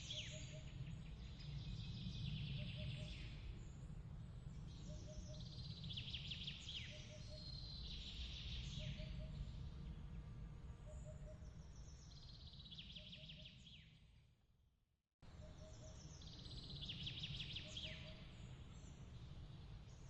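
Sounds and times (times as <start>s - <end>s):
songbird trills: 0.0s - 3.8s, 4.5s - 10.0s, 10.8s - 14.0s, 15.2s - 20.0s.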